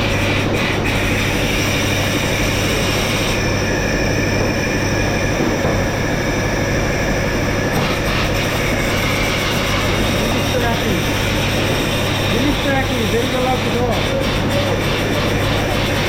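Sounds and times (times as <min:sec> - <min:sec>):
factory machinery noise: 0:00.0 - 0:16.0.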